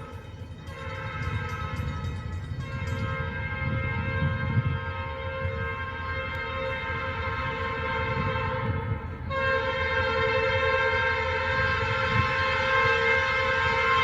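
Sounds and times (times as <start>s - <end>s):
locomotive air horn: 0.0s - 14.0s
passing train rumble: 0.0s - 14.0s.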